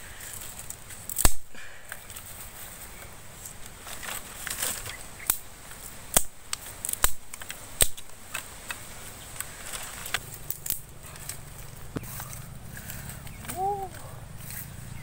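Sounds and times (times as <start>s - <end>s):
twigs crackling and rustling: 0.0s - 15.0s
dry twigs snapping: 0.1s - 14.9s.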